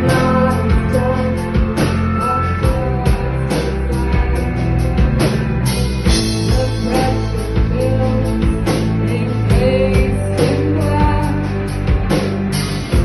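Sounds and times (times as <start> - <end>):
bass and guitar chords: 0.0 - 13.0
drum kit beat: 0.0 - 13.0.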